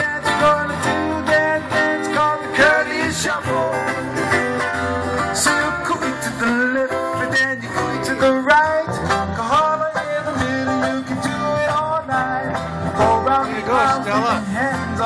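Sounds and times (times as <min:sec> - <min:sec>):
small band with acoustic guitar: 0:00.0 - 0:15.0.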